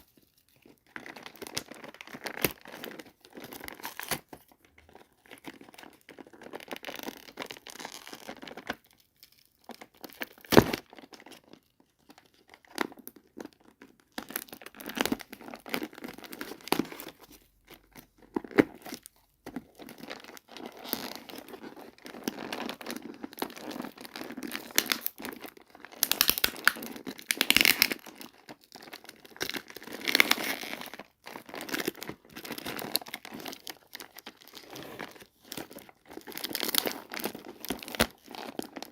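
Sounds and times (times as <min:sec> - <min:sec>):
packaging crinkling and tearing: 0:00.0 - 0:38.9.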